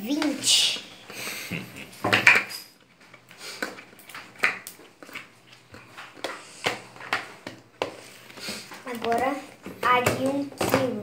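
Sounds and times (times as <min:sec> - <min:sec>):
plastic tubs clattering: 0:01.9 - 0:11.0.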